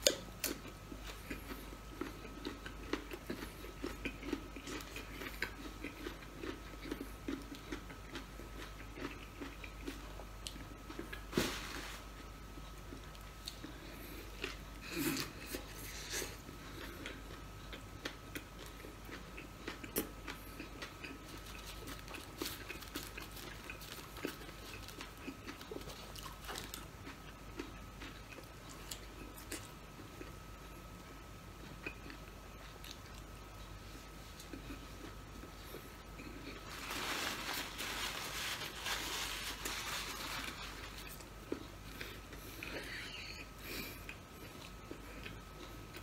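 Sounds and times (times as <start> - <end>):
man chewing food: 0.0 - 11.4, 12.0 - 46.0.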